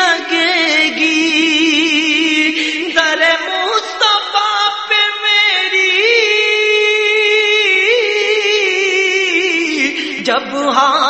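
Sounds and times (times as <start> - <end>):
person singing devotional song: 0.0 - 11.0.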